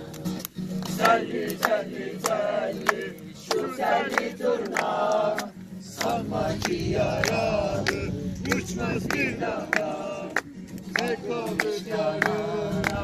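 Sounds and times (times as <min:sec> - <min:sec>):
hand claps: 0:00.0 - 0:13.0
group of people singing: 0:00.9 - 0:13.0.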